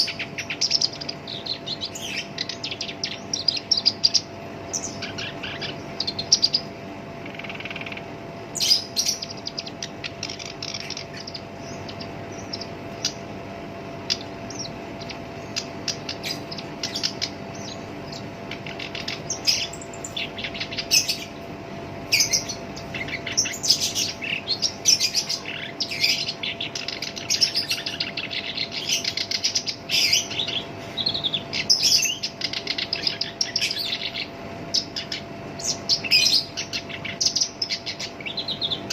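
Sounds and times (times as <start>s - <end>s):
faint steady hum: 0.0s - 38.9s
warbler singing rough chattering notes: 0.0s - 38.9s.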